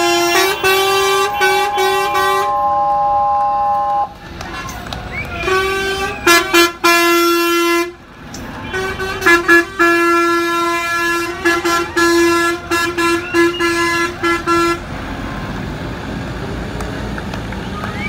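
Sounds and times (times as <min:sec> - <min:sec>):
fire engine horns honking: 0:00.0 - 0:15.0.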